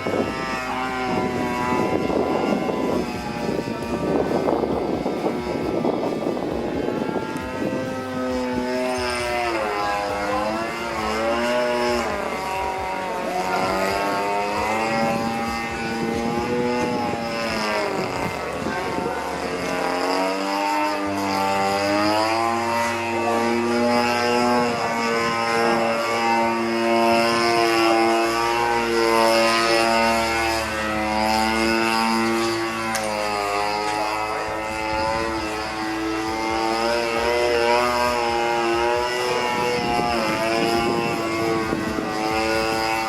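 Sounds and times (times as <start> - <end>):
model airplane engine: 0.0 - 43.0.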